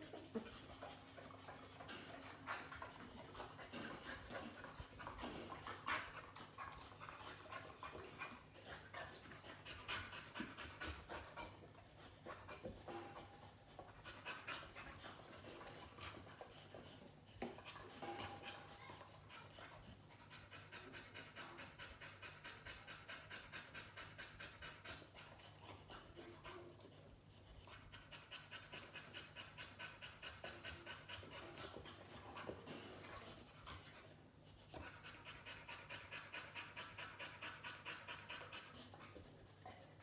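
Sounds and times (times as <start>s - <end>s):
dog panting quickly: 0.0s - 40.0s.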